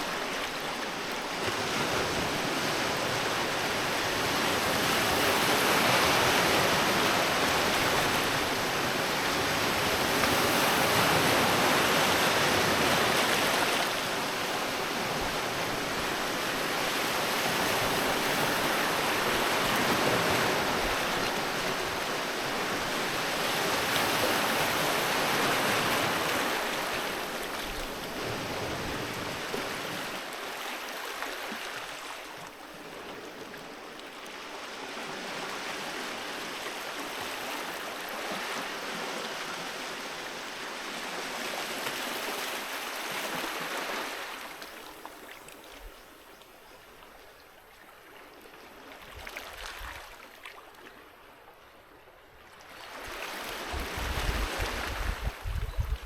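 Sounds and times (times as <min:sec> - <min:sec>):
sea waves washing onto shore: 0:00.0 - 0:45.8.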